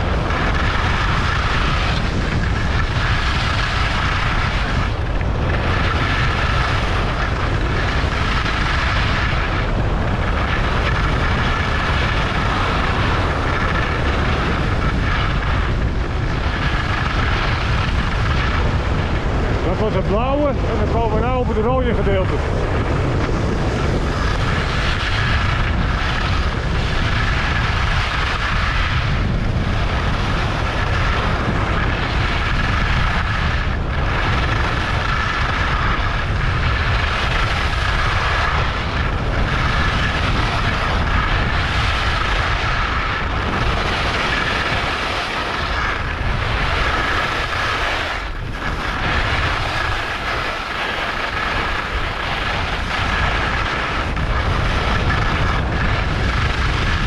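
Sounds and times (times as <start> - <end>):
skis scraping on snow: 0.0 - 57.0
wind rushing over microphone: 0.0 - 57.0.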